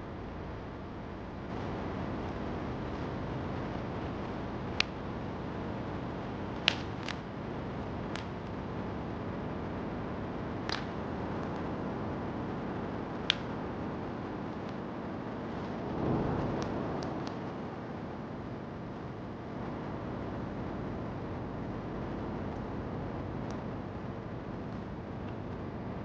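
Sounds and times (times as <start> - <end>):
steady rain hiss: 0.0 - 26.0
wood fire crackling: 0.1 - 26.0.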